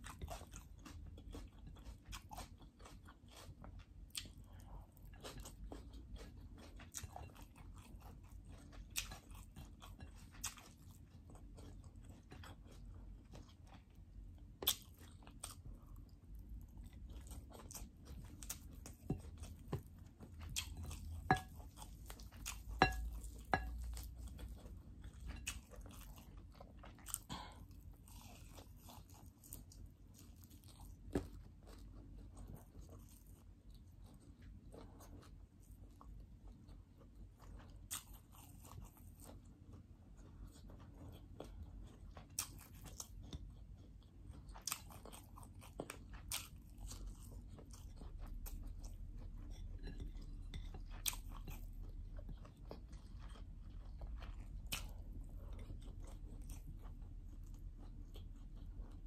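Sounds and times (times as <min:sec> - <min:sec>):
person chewing and biting food: 0:00.0 - 0:59.0.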